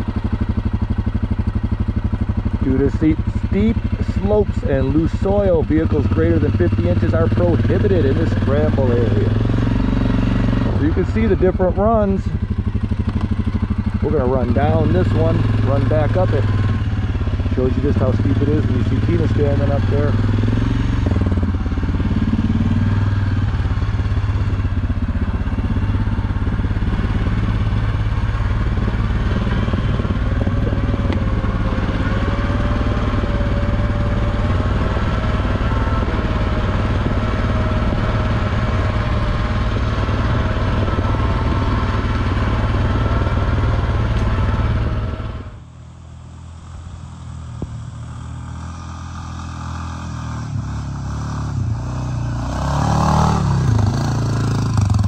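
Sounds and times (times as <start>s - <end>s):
atv engine approaching: 0.0s - 55.0s
atv engine running close: 0.0s - 55.0s.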